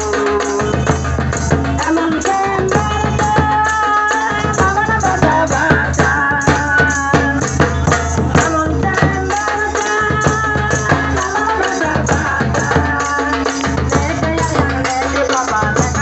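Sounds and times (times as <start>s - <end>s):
hand drums beating: 0.0s - 16.0s.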